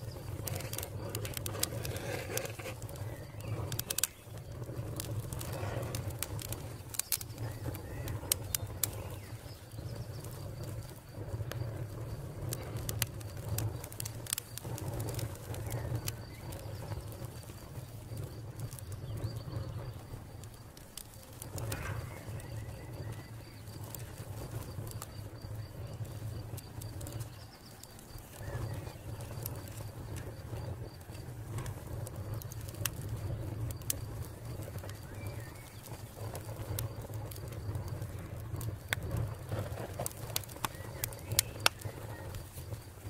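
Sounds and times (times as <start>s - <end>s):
fire crackling and popping: 0.0s - 43.0s
low fire rumble: 0.0s - 43.0s.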